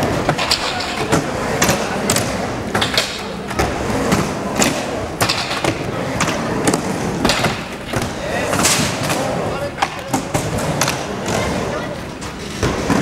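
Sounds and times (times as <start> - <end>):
skateboard clacks and thuds: 0.0 - 13.0
skateboard wheels rolling on concrete: 0.0 - 13.0.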